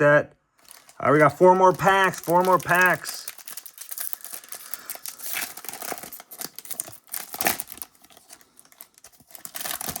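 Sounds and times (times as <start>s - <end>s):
plastic wrapper tearing and crinkling: 0.6s - 10.0s.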